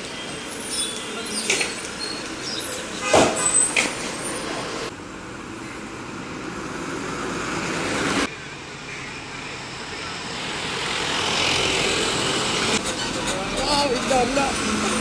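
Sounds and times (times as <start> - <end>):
bus approaching: 0.0 - 15.0.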